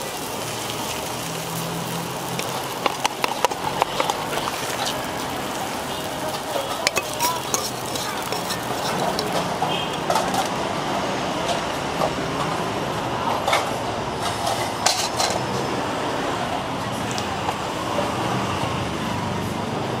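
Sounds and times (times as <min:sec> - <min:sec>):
street traffic: 0:00.0 - 0:20.0
vehicle engine running close: 0:00.0 - 0:20.0.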